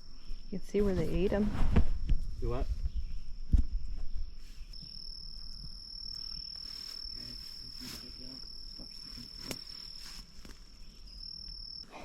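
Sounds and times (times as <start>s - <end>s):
high-pitched insect trill: 0.0s - 12.0s
bushes rustling: 0.1s - 11.8s.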